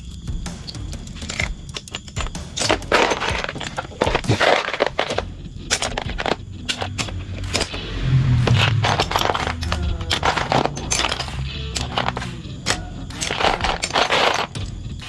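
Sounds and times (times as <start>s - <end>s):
metal parts clinking: 0.0s - 7.8s, 8.5s - 14.7s.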